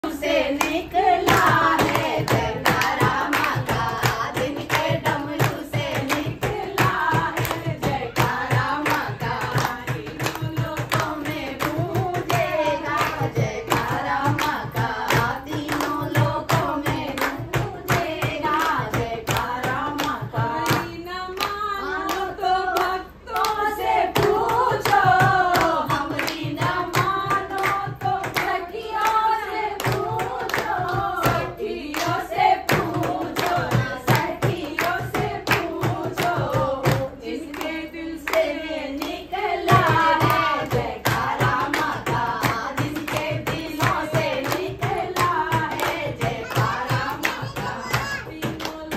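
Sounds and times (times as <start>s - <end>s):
rhythmic hand clapping: 0.0s - 48.9s
women singing together: 0.0s - 48.9s.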